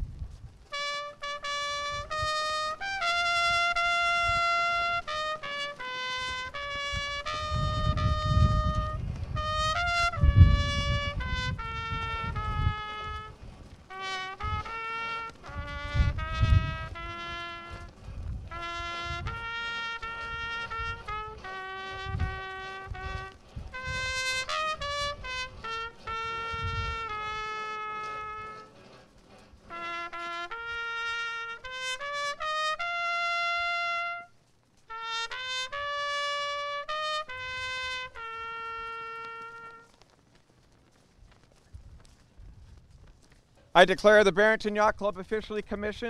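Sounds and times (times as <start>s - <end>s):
wind buffeting microphone: 0.0s - 34.3s, 35.3s - 46.0s
solo trumpet melody: 0.6s - 40.0s.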